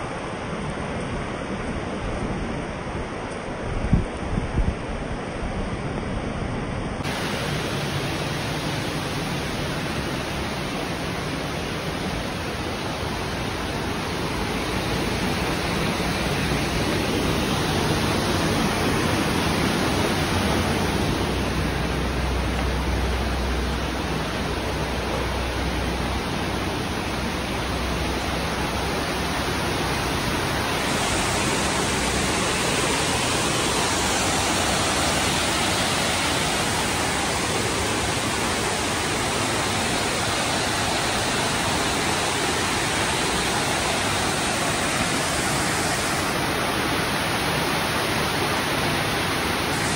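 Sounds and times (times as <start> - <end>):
water rushing over a dam: 0.0 - 49.9.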